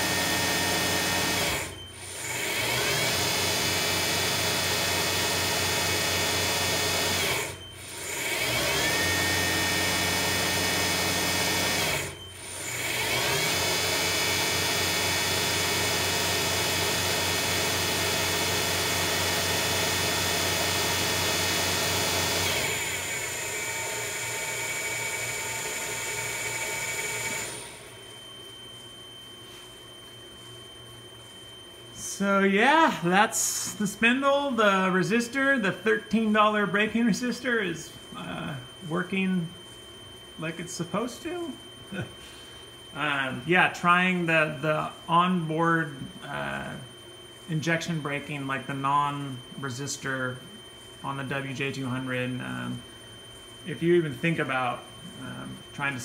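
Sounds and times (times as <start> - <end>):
mill spindle whine: 0.0 - 56.0.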